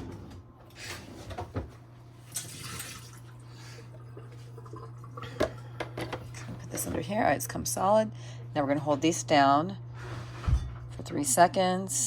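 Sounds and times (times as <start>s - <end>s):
coffee machine pump humming: 0.7s - 12.0s.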